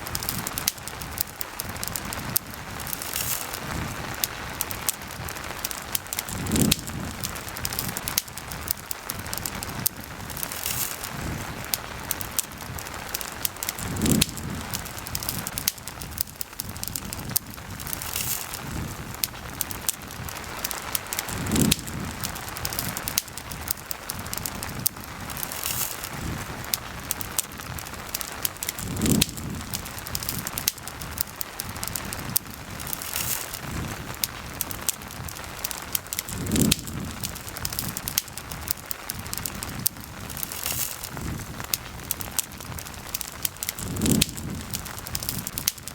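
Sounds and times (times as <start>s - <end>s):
campfire crackling and popping: 0.0s - 45.9s
steady rain hiss: 0.0s - 45.9s.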